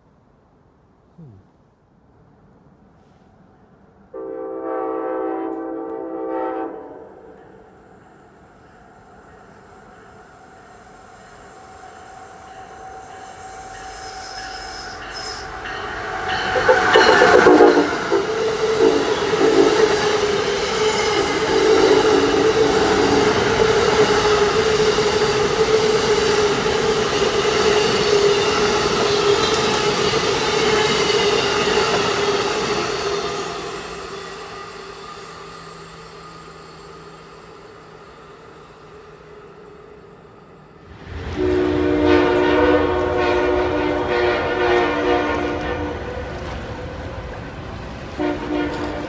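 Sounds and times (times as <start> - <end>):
passenger train passing: 2.1 - 49.0.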